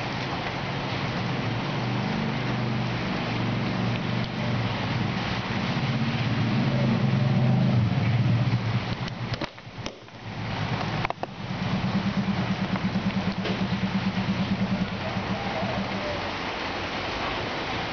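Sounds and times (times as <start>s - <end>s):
engine running: 0.0s - 17.7s.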